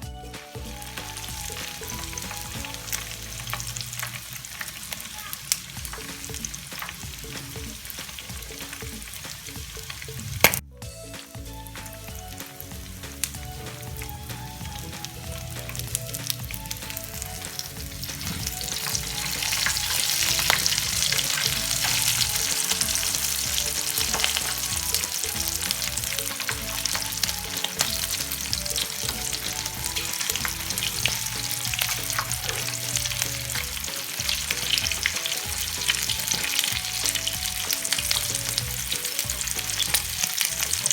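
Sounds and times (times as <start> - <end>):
deep-frying sizzling and crackling: 0.0 - 40.9
faint background music: 0.0 - 40.9.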